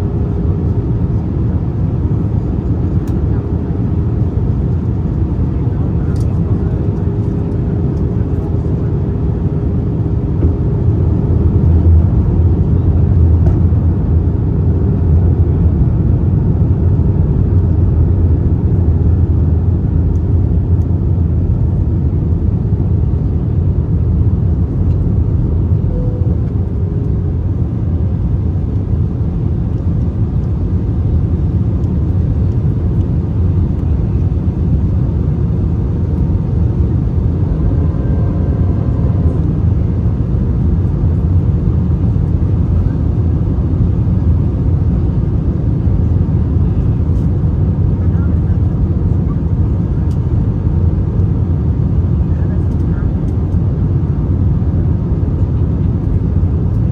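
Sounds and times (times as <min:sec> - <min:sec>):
airplane cabin engine rumble: 0:00.0 - 0:56.9.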